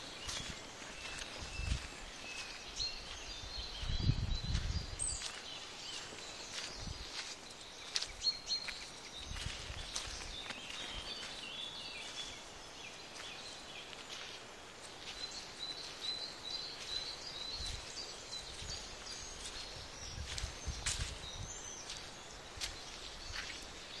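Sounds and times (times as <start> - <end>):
birds singing: 0.0 - 24.0
footsteps on a dirt path: 0.0 - 24.0.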